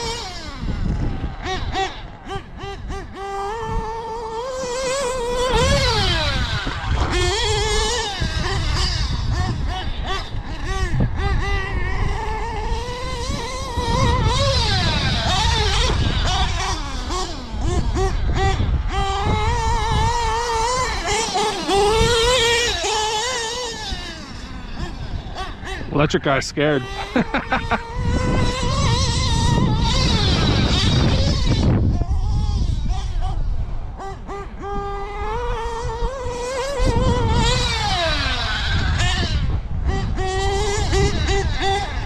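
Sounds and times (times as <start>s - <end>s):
rc car engine revving: 0.0s - 42.0s.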